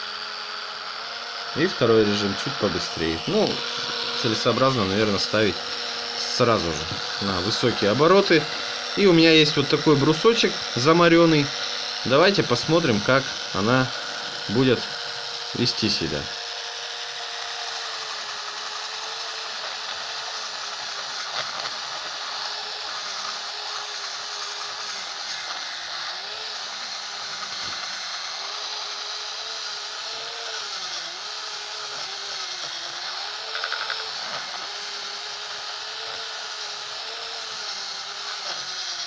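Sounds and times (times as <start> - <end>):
small electric motor whining: 0.0 - 39.0
scratchy sanding hiss: 1.2 - 39.0.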